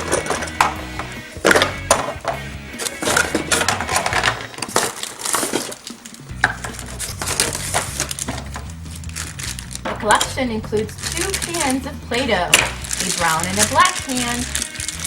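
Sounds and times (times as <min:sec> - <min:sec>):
plastic toy pieces clattering: 0:00.0 - 0:00.8, 0:01.4 - 0:11.8, 0:12.5 - 0:15.0.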